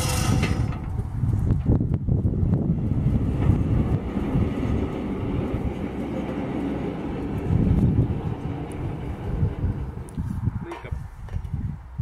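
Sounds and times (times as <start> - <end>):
sawmill engine rumbling: 0.0 - 11.0.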